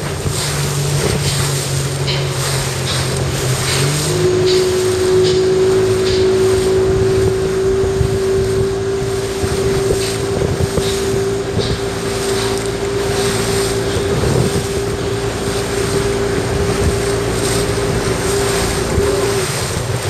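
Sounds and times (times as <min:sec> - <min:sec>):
outboard motor running: 0:00.0 - 0:20.0
rush of water: 0:00.0 - 0:20.0.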